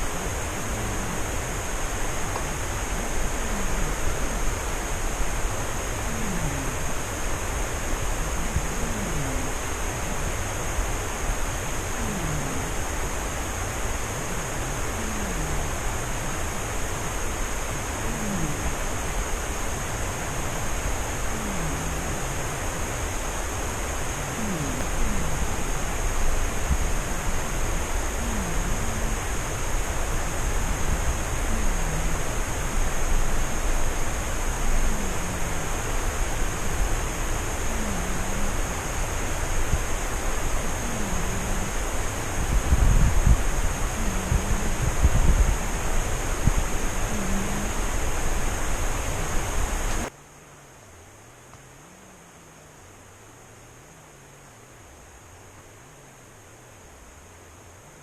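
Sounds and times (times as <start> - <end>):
cat snoring: 0.0 - 10.7, 11.3 - 50.1
loud steady hiss: 0.0 - 58.0.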